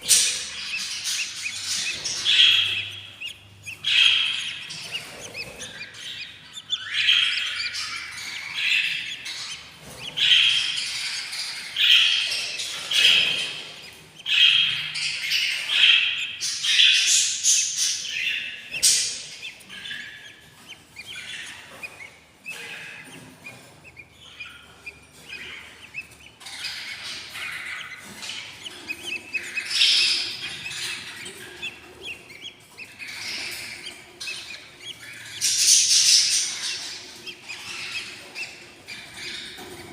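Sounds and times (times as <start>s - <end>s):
chicks begging chirps: 0.0s - 39.9s.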